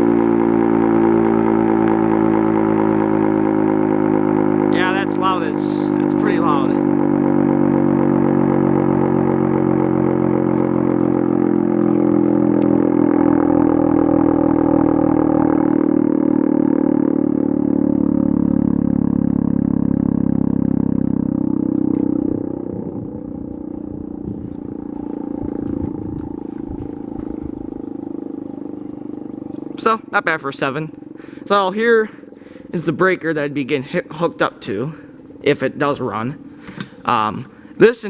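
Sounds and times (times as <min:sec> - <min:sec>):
warning siren steady tone: 0:00.0 - 0:38.0.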